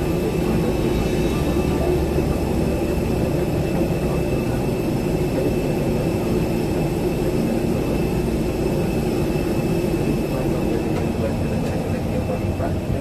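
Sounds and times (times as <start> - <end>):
airliner cabin rush and hum: 0.0 - 13.0
faint high whine: 0.0 - 13.0.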